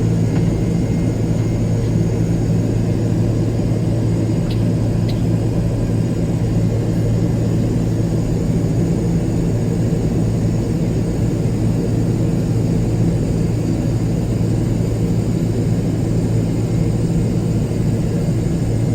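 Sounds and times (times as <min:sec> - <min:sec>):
airliner cabin drone: 0:00.0 - 0:18.9.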